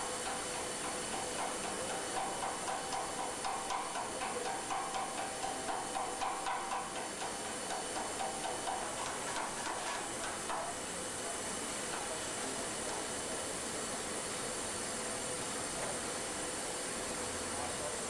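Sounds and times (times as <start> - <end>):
hydraulic test rig hissing: 0.0 - 18.0.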